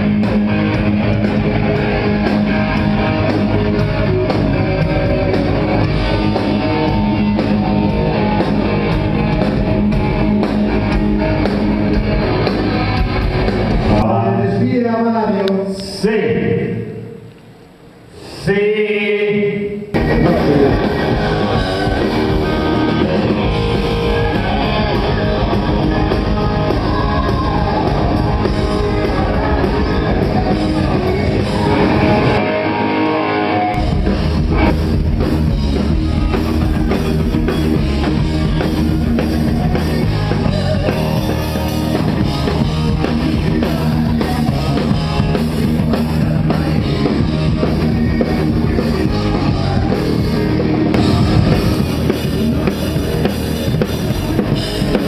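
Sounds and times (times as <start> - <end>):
drum kit: 0.0 - 14.6, 19.9 - 32.9, 33.6 - 55.0
electric guitar: 0.0 - 14.6, 19.6 - 55.0
bass guitar: 0.0 - 15.4, 19.9 - 55.0.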